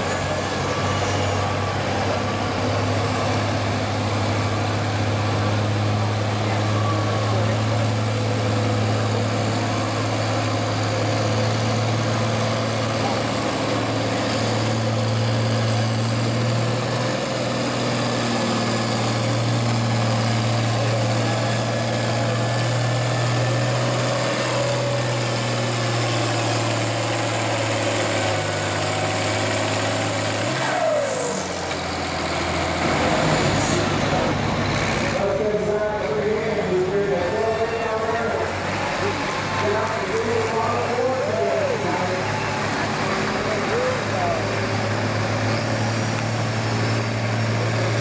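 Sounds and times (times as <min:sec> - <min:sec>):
tractor engine pulling: 0:00.0 - 0:48.0.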